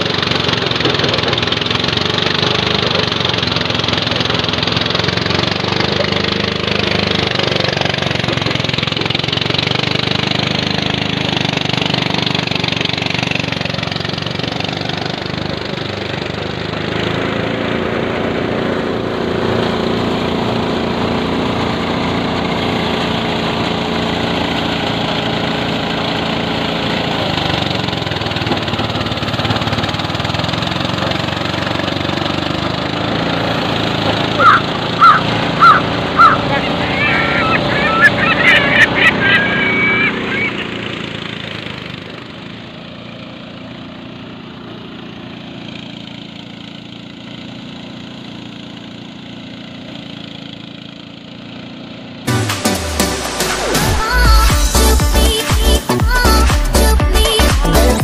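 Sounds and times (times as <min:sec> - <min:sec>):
thresher small-engine drone: 0:00.0 - 0:58.0.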